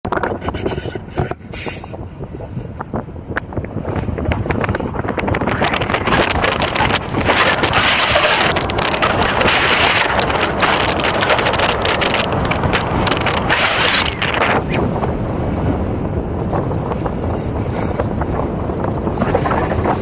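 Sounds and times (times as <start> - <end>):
car road noise: 0.0 - 20.0
wind buffeting microphone: 0.0 - 20.0.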